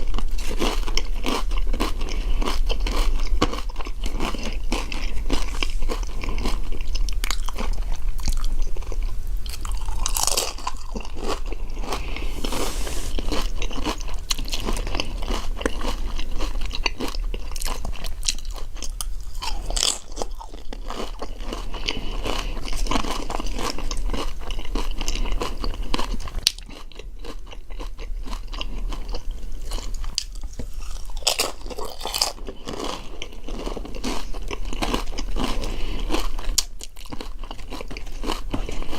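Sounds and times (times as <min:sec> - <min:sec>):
crunching tortilla chips: 0:00.0 - 0:38.9.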